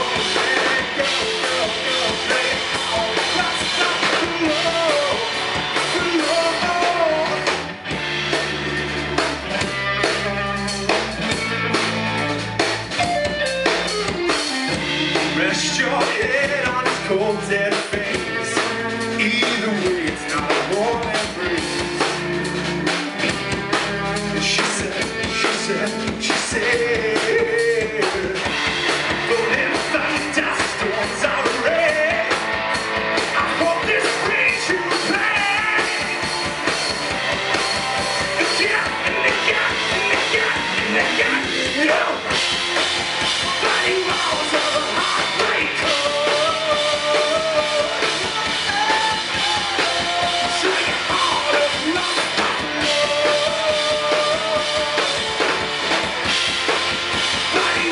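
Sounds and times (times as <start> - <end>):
man singing lead vocal: 0.0 - 7.7, 14.7 - 32.6, 33.2 - 36.7, 37.9 - 42.5, 43.2 - 55.7, 57.3 - 57.9
bass guitar: 0.0 - 57.9
drum kit: 0.0 - 57.9
electric guitars: 0.0 - 57.9.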